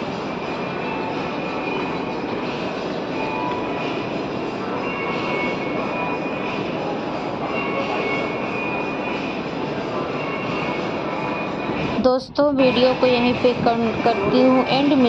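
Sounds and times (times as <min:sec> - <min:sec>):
shopping mall ambience: 0:00.0 - 0:15.0.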